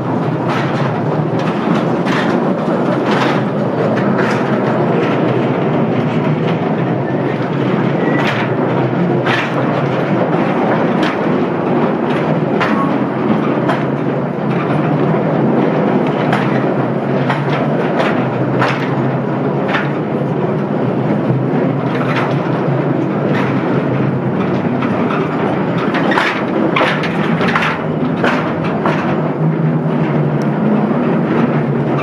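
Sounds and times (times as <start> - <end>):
metallic wheel clacks: 0.0 - 32.0
train wagons rumbling: 0.0 - 32.0.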